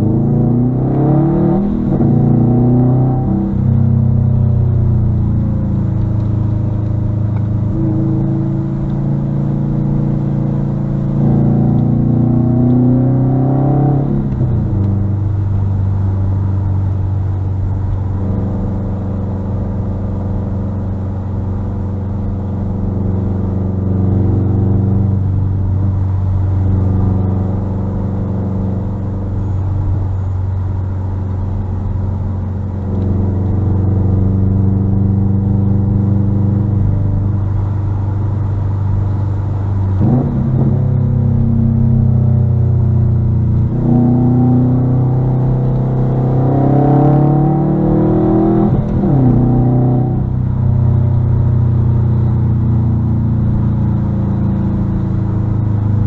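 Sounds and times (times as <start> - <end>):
turbocharged car engine revving: 0.0 - 56.0.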